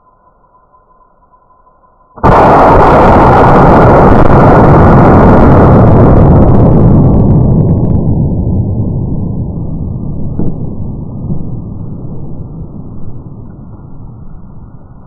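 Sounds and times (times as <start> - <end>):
explosion blast with long rumble: 2.2 - 15.0.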